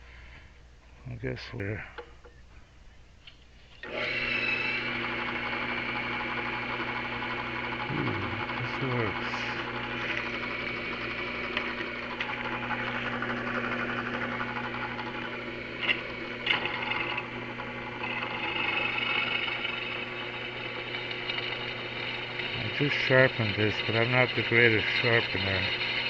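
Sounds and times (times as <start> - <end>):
electric drill boring: 3.8 - 26.0.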